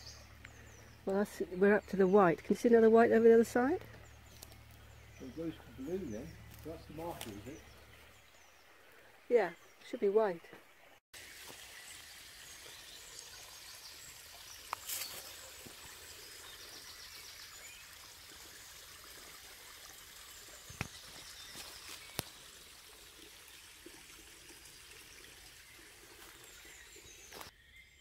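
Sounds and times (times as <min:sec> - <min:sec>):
brook trickling: 0:00.0 - 0:27.5.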